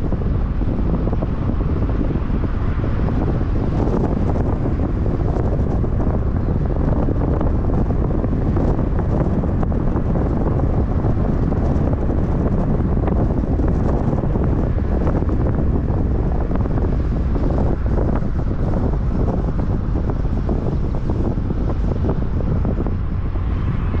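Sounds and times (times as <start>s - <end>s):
road noise: 0.0s - 24.0s
wind buffeting microphone: 0.0s - 24.0s.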